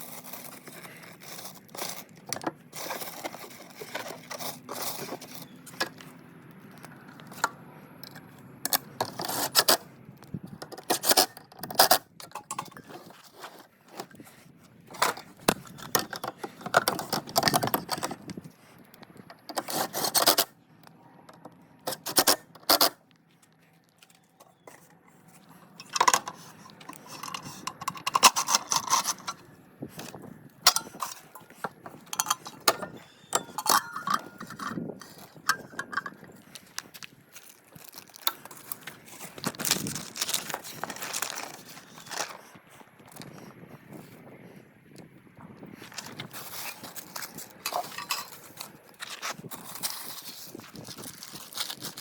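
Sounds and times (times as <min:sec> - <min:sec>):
fan parts scraping and rattling: 0:00.0 - 0:52.0.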